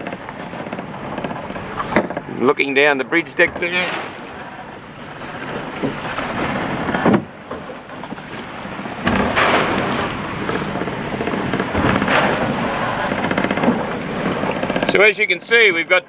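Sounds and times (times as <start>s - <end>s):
seawater splashing over hull: 0.0s - 16.0s.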